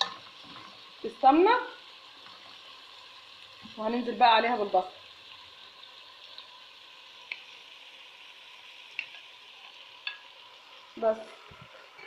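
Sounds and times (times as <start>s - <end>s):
meat and onions sizzling: 0.0s - 12.0s.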